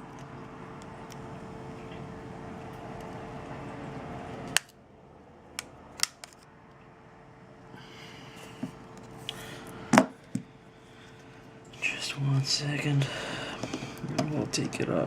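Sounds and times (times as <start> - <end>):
background hum with faint tone: 0.0 - 15.0.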